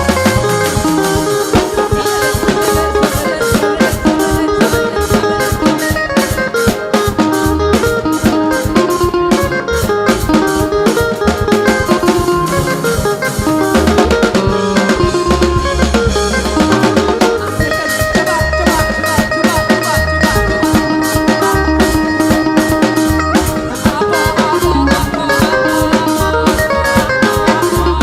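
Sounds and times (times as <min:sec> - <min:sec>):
bass guitar: 0:00.0 - 0:28.0
drum kit beat: 0:00.0 - 0:28.0
electric guitar: 0:00.0 - 0:28.0.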